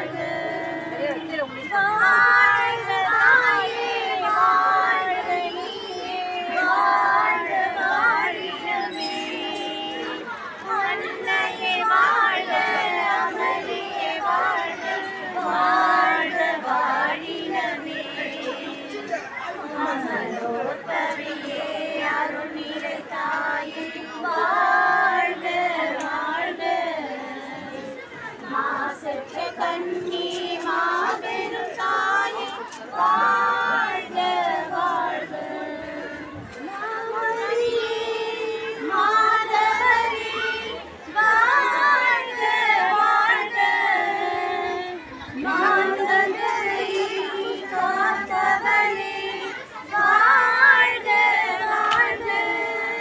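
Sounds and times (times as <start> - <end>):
women singing together: 0.0 - 53.0.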